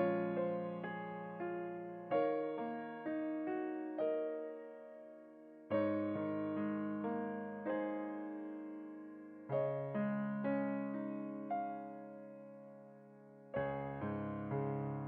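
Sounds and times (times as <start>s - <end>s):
slow electric piano chords: 0.0s - 15.0s.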